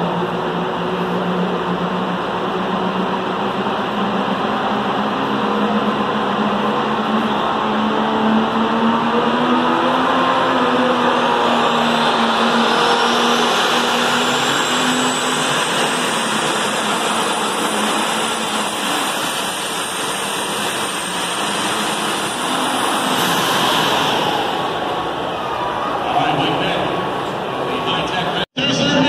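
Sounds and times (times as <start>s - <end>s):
tractor engine running loud: 0.0s - 25.3s.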